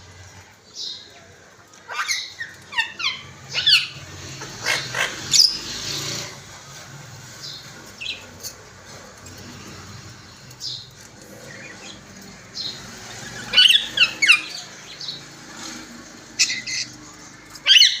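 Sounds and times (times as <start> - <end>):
parrots squawking and chirping: 0.2 - 18.0.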